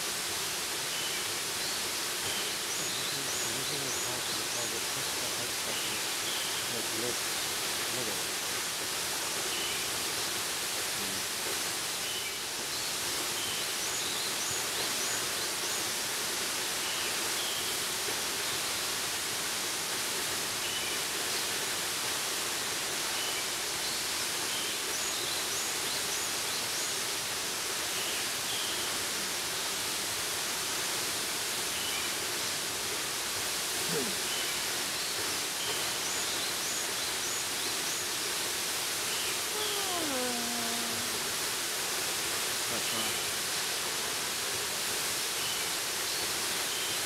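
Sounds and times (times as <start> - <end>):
waterfall roaring onto rock: 0.0 - 47.0.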